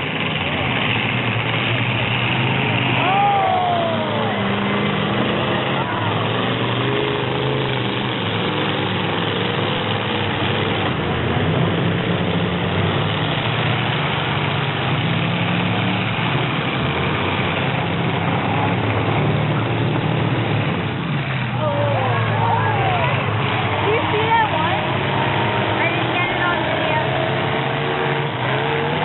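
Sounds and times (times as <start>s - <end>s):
truck engines droning: 0.0s - 29.0s.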